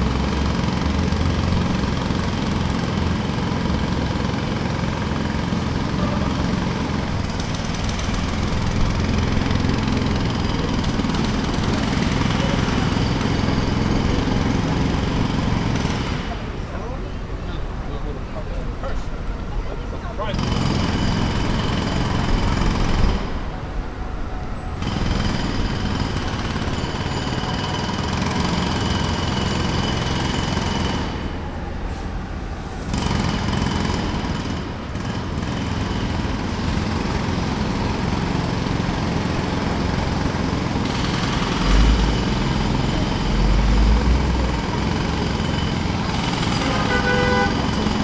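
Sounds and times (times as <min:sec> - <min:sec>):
jackhammer hammering: 0:00.0 - 0:16.9, 0:20.3 - 0:23.5, 0:24.8 - 0:31.7, 0:32.9 - 0:48.0.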